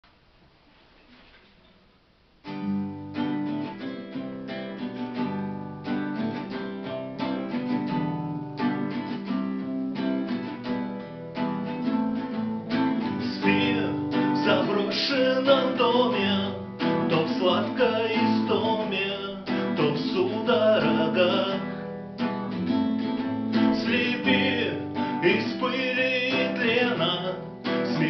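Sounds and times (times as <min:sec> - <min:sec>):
acoustic guitar strumming: 0:02.4 - 0:28.0.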